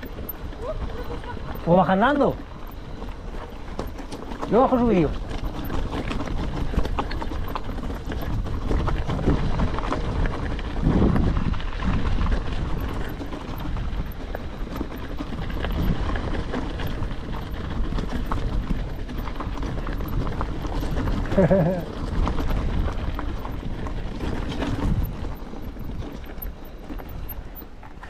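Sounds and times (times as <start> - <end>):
bike frame rattling: 0.0 - 28.0
tyres crunching over loose stones: 0.0 - 28.0.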